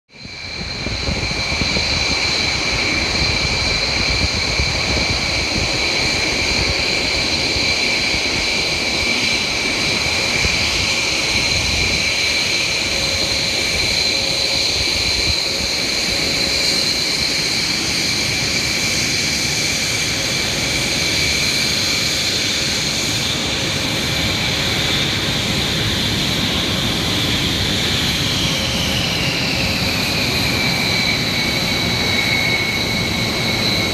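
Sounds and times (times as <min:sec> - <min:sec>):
jet engines whining: 0:00.1 - 0:33.9.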